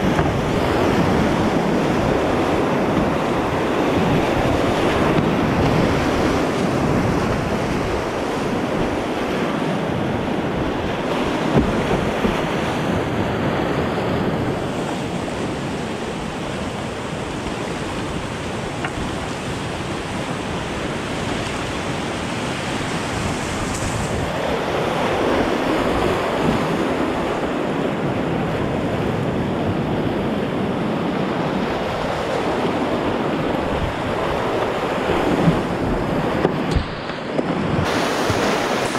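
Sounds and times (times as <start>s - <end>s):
whitewater rapids rushing: 0.0s - 38.9s.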